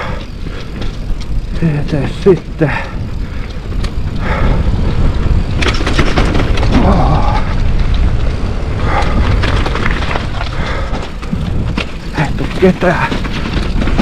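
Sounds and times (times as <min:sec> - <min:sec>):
bike knocking and rattling on rock: 0:00.0 - 0:14.0
bike tyres rumbling on trail: 0:00.0 - 0:14.0.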